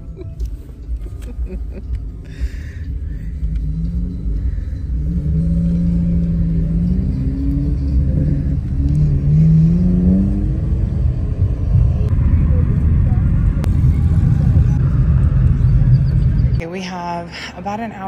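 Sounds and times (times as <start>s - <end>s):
car engine accelerating: 0.0s - 16.6s
road rumble in car: 0.0s - 16.7s.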